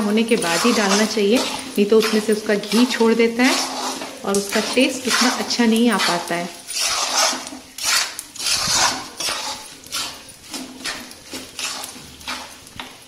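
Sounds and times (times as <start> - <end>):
metal spatula scraping a pan: 0.0 - 13.0.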